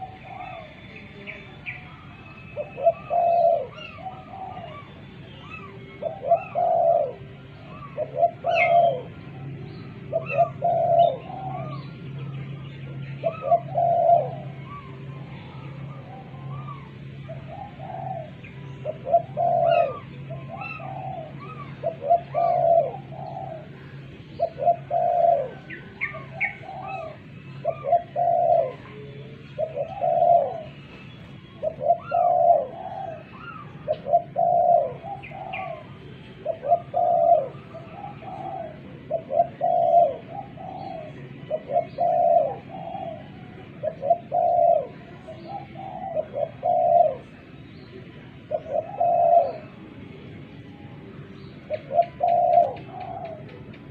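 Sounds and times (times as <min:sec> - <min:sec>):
small birds chirping: 0:00.0 - 0:49.8
dove cooing: 0:00.0 - 0:50.8, 0:51.6 - 0:53.9.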